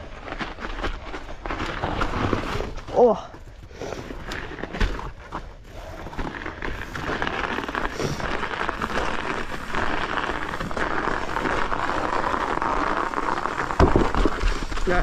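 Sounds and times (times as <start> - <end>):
bike tyres crunching through snow: 0.0 - 15.0.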